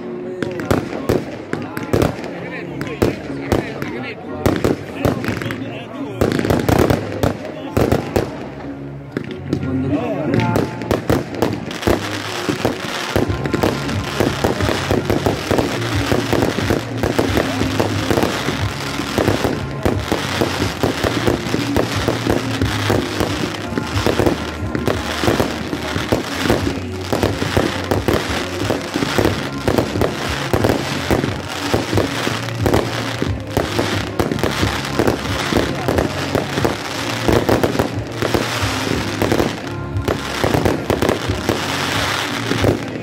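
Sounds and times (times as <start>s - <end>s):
fireworks bangs and crackling: 0.0s - 43.0s
music playing: 0.0s - 43.0s.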